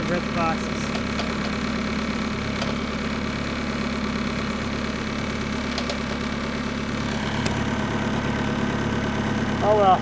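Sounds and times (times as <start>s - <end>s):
loader engine idling: 0.0s - 10.0s.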